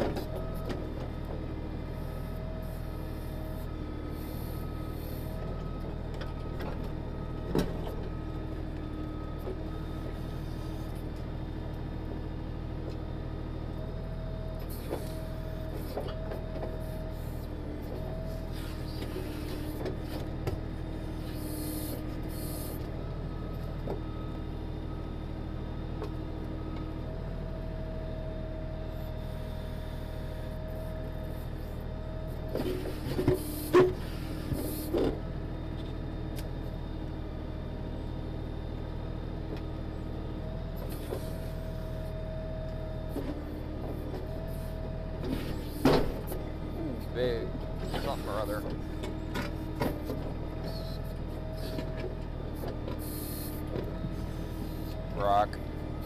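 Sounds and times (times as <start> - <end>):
hydraulic whine: 0.0 - 11.5, 13.7 - 25.0, 25.6 - 37.4, 39.5 - 56.0
tractor diesel engine running: 0.0 - 56.0.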